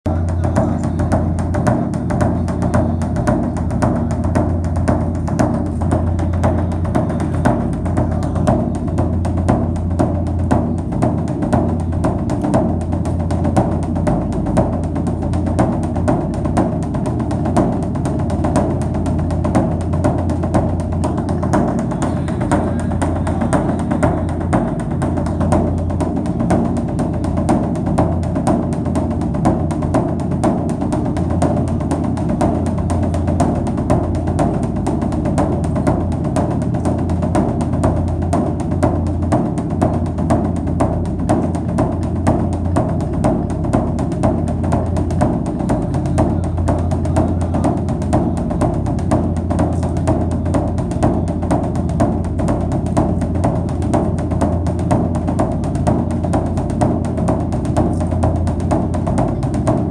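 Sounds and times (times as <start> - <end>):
fast percussion strokes: 0.1 - 59.9.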